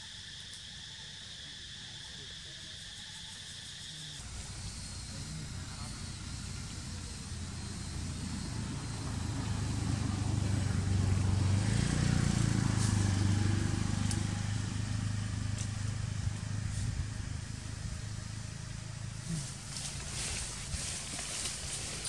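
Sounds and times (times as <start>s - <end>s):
motor engine humming: 4.2s - 22.0s.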